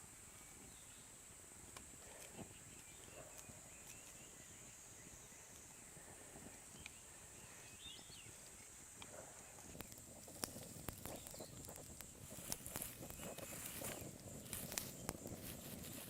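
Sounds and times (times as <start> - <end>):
faint bird chirps: 0.3 - 1.3, 2.0 - 16.0.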